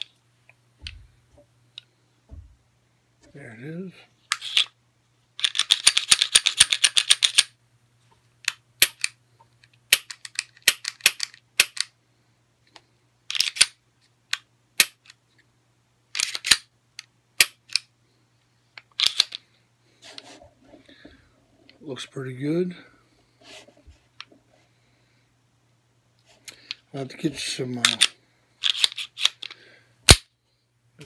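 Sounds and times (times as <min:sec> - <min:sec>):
faint steady low hum: 0:00.0 - 0:31.0.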